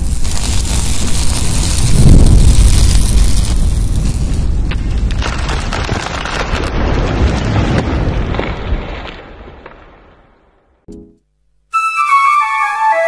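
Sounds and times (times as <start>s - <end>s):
dense rumbling with crackles: 0.0s - 10.9s.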